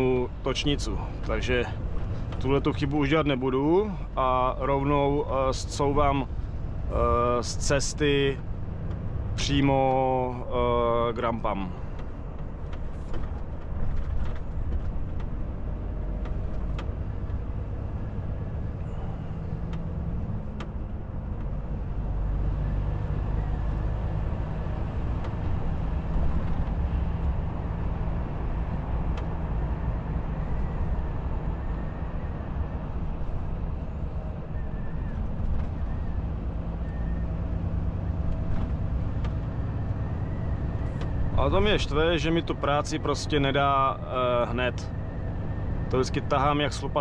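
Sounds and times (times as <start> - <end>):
truck diesel engine accelerating: 0.0 - 47.0.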